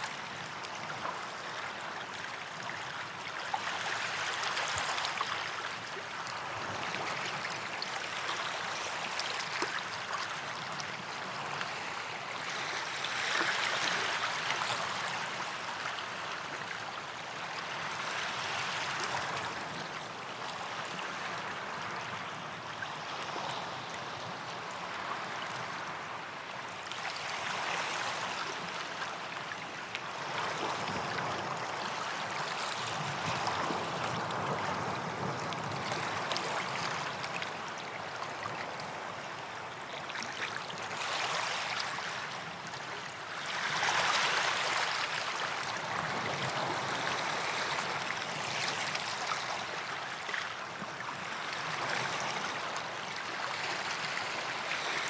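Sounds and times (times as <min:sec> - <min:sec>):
waves washing up a beach: 0:00.0 - 0:55.0.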